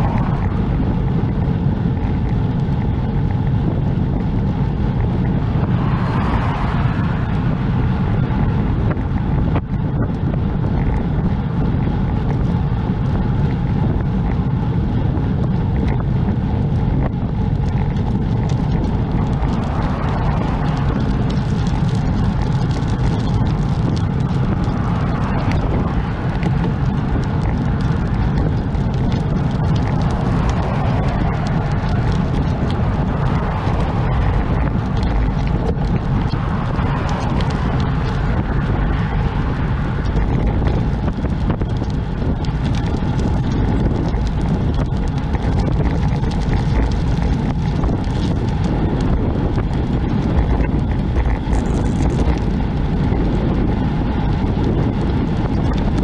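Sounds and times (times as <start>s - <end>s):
passing cars: 0.0s - 56.0s
wind rush on microphone: 0.0s - 56.0s.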